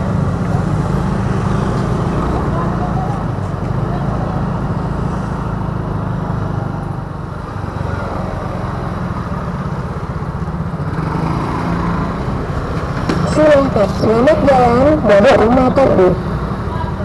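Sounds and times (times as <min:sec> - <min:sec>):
road noise: 0:00.0 - 0:17.0
scooter engine running: 0:00.0 - 0:17.0.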